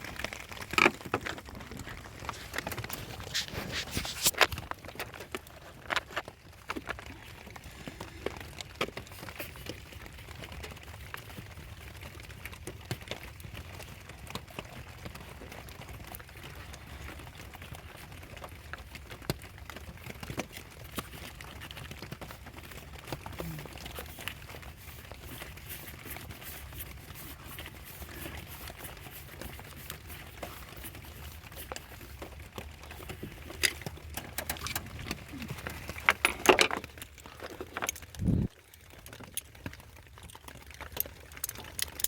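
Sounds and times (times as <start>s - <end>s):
light clicks and taps on engine parts: 7.9s - 42.0s.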